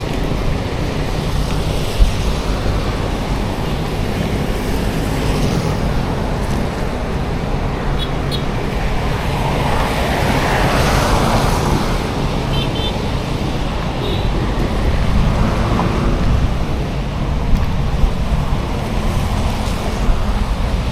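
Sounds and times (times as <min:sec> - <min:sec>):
traffic rumble: 0:00.0 - 0:20.9.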